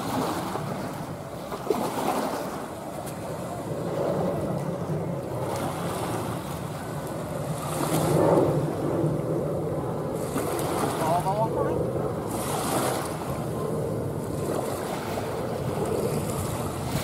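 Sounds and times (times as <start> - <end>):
wind noise on microphone: 0.0 - 17.0
jet airliner engines rumbling: 2.4 - 17.0.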